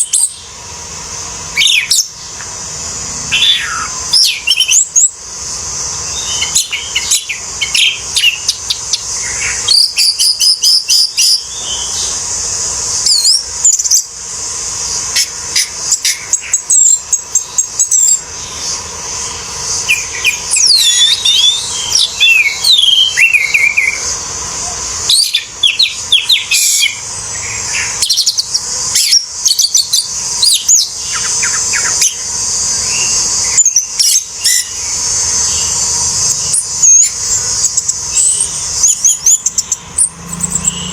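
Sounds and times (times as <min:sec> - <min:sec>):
high-pitched hiss: 0:00.0 - 0:40.9
thrush singing: 0:00.2 - 0:40.9.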